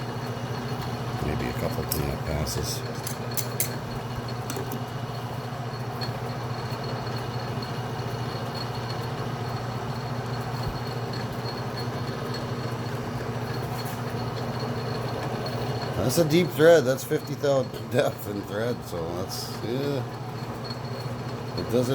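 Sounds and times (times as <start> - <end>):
metal lathe humming: 0.0 - 21.9.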